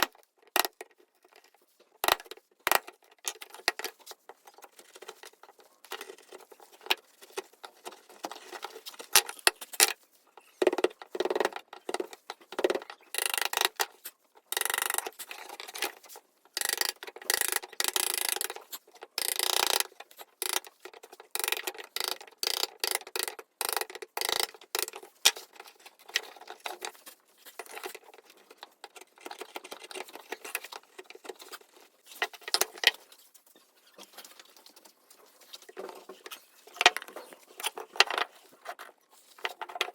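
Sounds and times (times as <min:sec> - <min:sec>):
wood and tools clicking: 0:00.0 - 0:33.2, 0:34.0 - 0:39.9.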